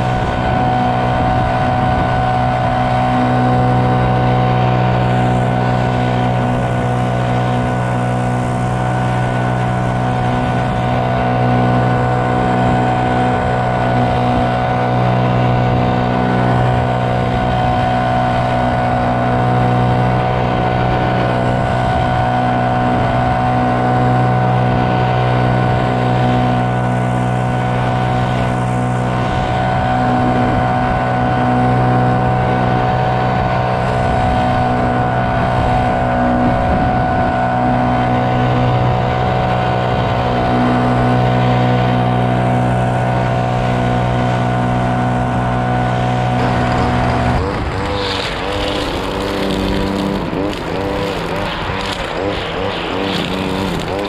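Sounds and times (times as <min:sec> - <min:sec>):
leaf blower engine running: 0:00.0 - 0:54.0.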